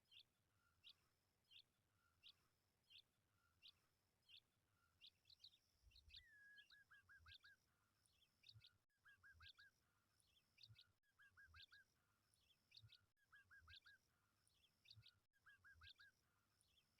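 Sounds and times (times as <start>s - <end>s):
faint bird chirps: 0.0s - 16.9s.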